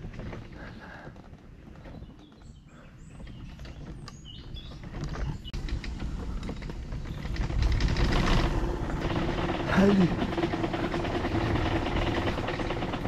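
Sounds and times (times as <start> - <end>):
wheelchair rattling and creaking: 0.0 - 13.0
low rolling rumble: 2.4 - 13.0.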